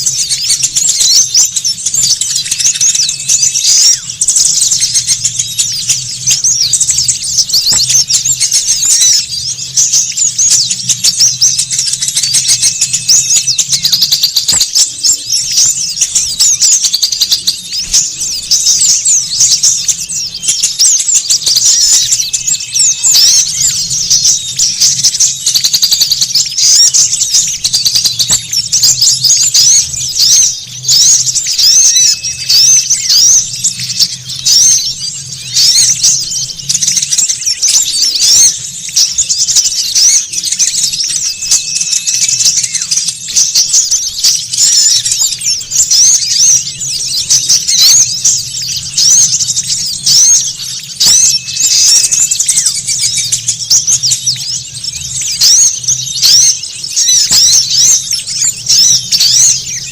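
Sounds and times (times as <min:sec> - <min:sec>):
flock of songbirds twittering: 0:00.0 - 0:59.9.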